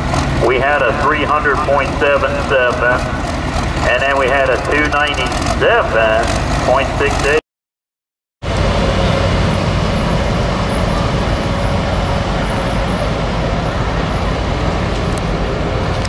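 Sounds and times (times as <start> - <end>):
tractor engines running: 0.0 - 7.4, 8.4 - 16.0.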